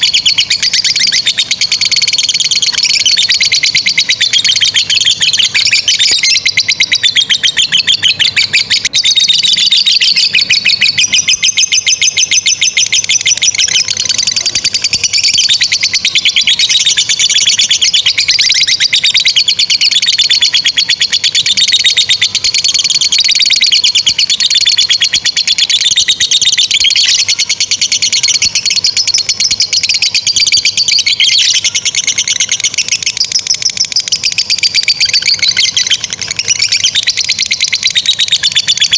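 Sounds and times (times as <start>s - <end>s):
lovebirds trilling chatter: 0.0s - 38.9s.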